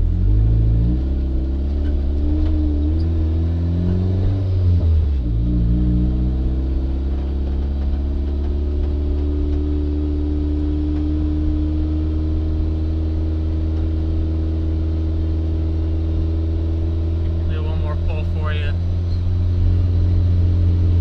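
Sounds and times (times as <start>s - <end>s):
car engine running while driving: 0.0s - 21.0s.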